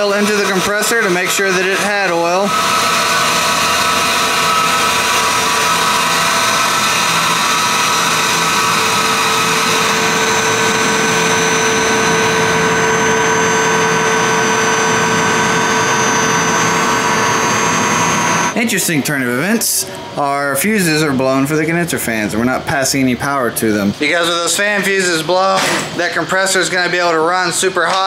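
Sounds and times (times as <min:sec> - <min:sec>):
thin high whine: 0:00.0 - 0:22.5
compressor mechanical drone: 0:00.0 - 0:28.0.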